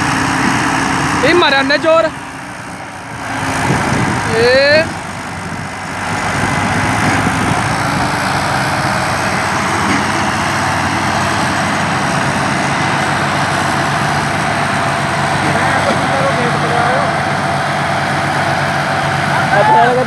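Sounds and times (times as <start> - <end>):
tractor diesel engines straining: 0.0 - 20.0.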